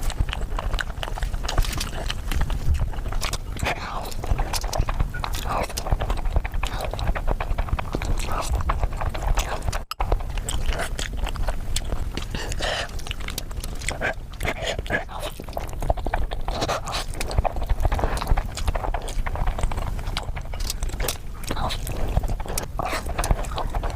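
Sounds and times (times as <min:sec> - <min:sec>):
chewing and slurping noodles: 0:00.0 - 0:23.9.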